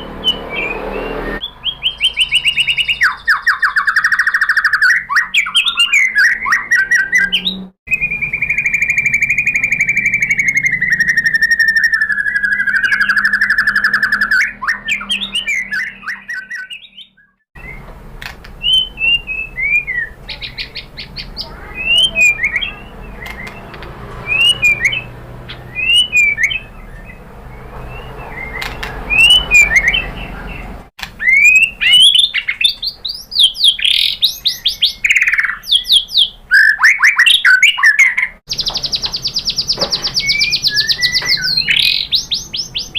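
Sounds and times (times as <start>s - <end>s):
bird singing trills and whistles: 0.0s - 17.9s, 18.5s - 42.9s.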